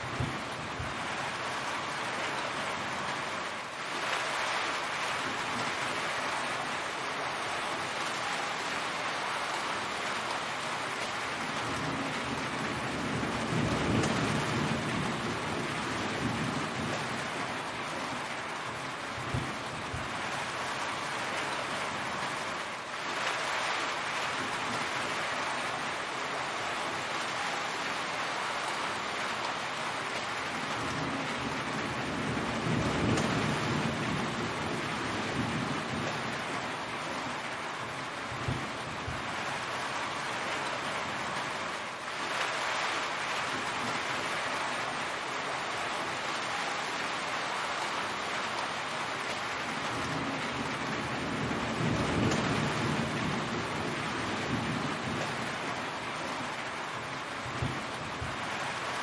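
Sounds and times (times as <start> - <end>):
heavy rain hiss: 0.0 - 59.0.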